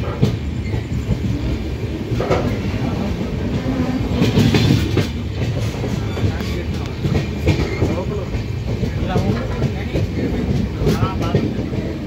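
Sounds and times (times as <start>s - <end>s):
clickety-clack over rail joints: 0.0s - 12.0s
train wheels rumbling on track: 0.0s - 12.0s.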